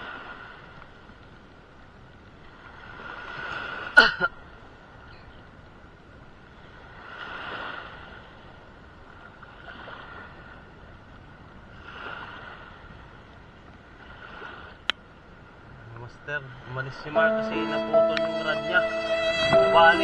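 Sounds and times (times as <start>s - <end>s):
wind and waves: 0.0s - 20.0s.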